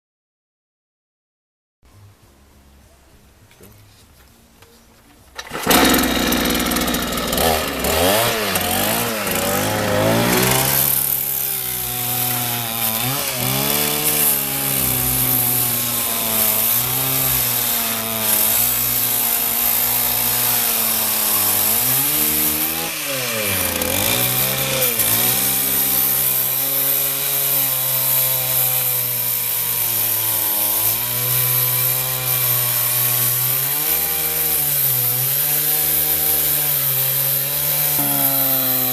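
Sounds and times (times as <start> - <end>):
chainsaw running: 5.4 - 38.9.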